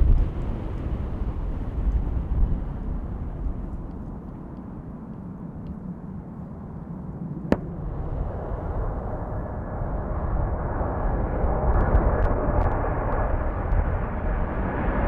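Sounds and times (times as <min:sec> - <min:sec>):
wind buffeting the microphone: 0:00.0 - 0:06.7, 0:07.5 - 0:15.0
distant jet engines rumbling: 0:00.0 - 0:15.0.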